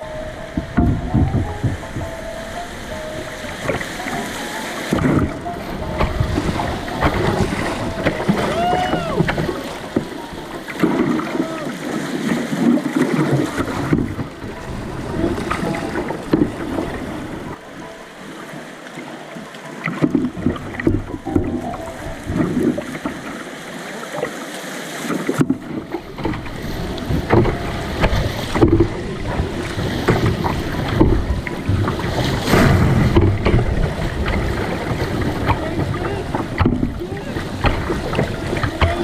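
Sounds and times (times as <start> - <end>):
wind buffeting microphone: 0.0 - 18.2, 19.9 - 23.7, 25.1 - 39.0
water rushing and splashing: 0.0 - 39.0.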